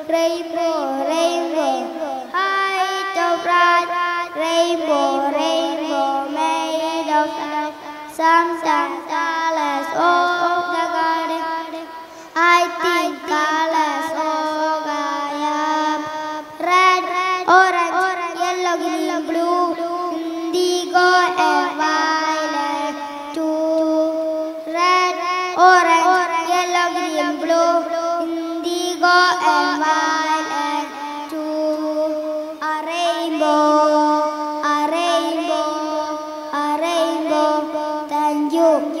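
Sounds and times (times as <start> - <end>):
boy singing into microphone: 0.0 - 39.0.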